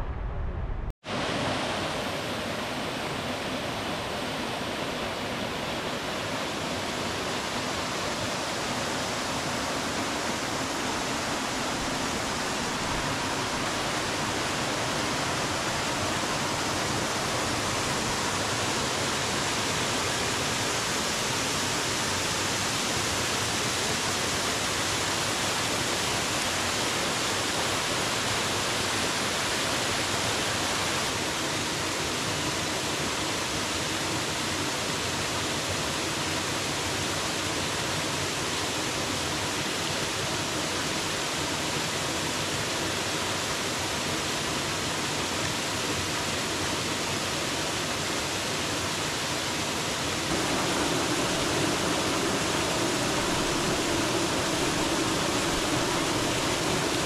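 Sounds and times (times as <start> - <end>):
small waterfall into a pool: 1.0 - 57.0.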